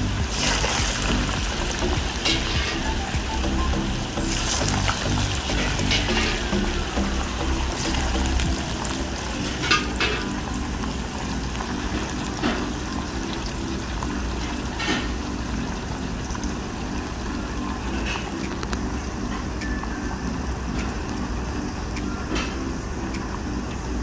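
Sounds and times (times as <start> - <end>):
low steady hum: 0.0 - 24.0
seeds frying in hot oil: 0.0 - 24.0.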